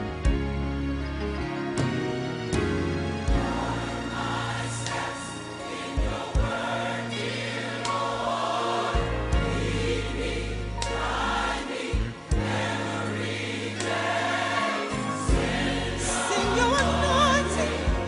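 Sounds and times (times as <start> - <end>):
gospel choir music: 0.0 - 18.0.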